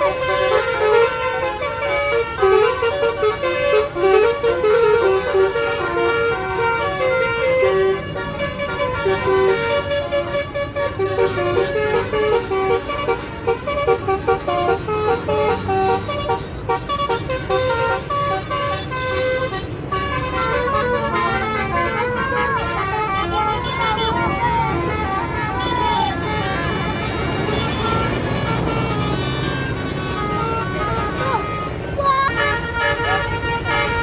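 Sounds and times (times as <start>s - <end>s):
bus engine running: 0.0s - 34.0s
musical bus horn playing tune: 0.0s - 34.0s.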